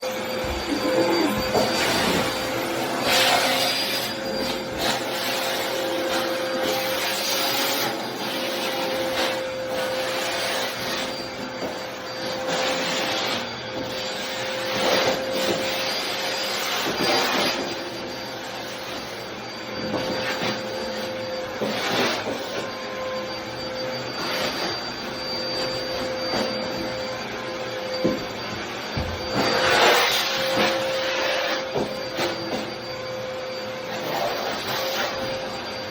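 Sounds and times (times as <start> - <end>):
backpack vacuum whining: 0.0 - 35.9.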